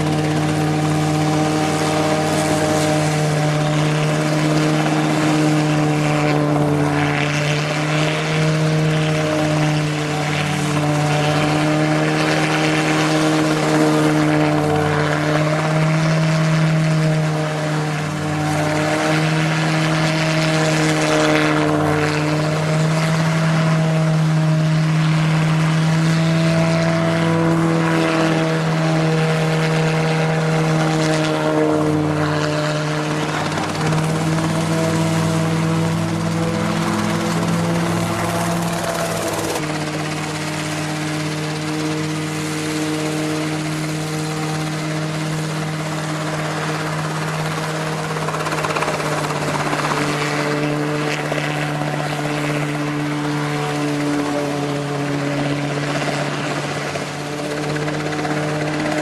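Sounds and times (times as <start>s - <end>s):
helicopter engine and rotors humming: 0.0s - 59.0s.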